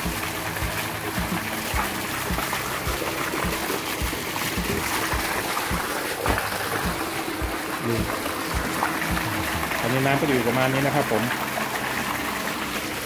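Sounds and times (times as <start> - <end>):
water jet splashing into tub: 0.0 - 13.0.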